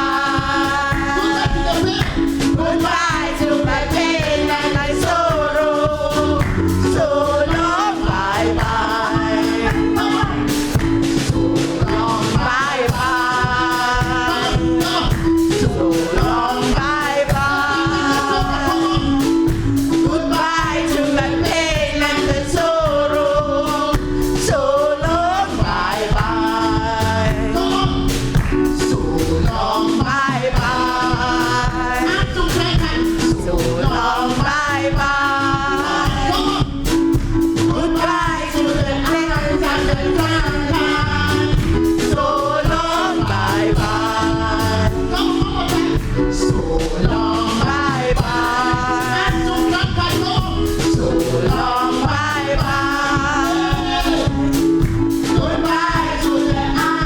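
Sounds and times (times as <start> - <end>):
gospel singing: 0.0 - 57.0
instrumental accompaniment with beat: 0.0 - 57.0.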